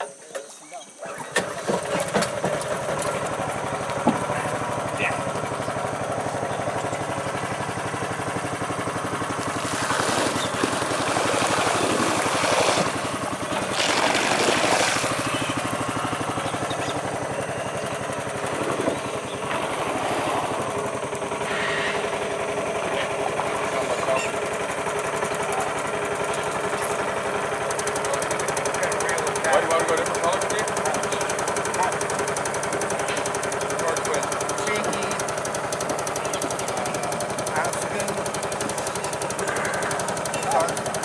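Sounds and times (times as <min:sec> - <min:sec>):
boat engine chugging: 0:00.9 - 0:41.0.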